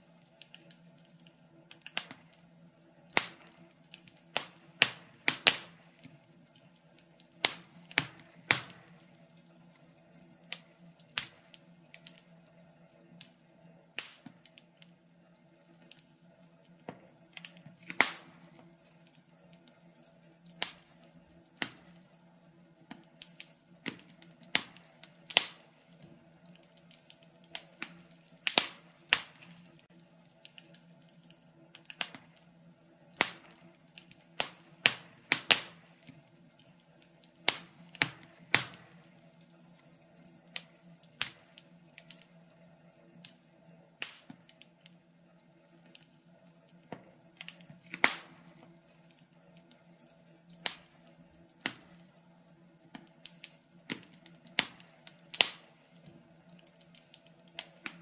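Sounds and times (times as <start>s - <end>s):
faint steady low hum: 0.0s - 58.0s
wood fire crackling: 0.0s - 58.0s.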